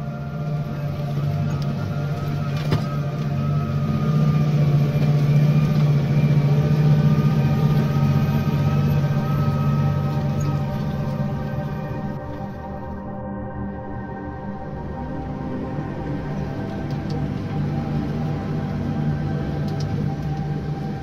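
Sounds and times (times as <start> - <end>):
tractor diesel engine under load: 0.0 - 12.9, 14.4 - 21.0.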